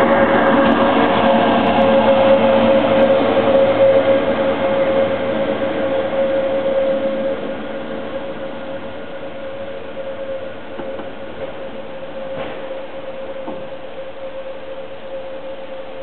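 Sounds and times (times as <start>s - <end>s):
railcar whine and rolling noise: 0.0s - 16.0s.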